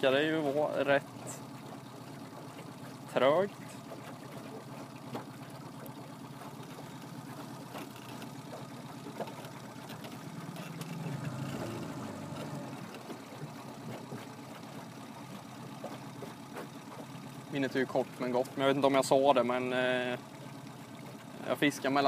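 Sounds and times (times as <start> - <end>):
boat motor humming: 0.0 - 22.0.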